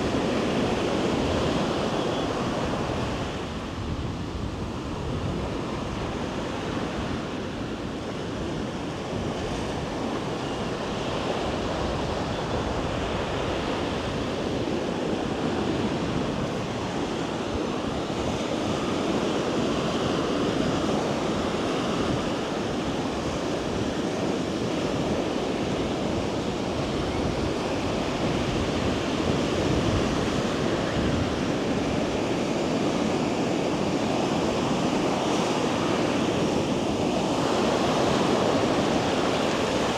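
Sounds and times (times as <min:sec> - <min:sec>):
ocean surf washing onto beach: 0:00.0 - 0:39.9
wind buffeting microphone: 0:00.0 - 0:39.9.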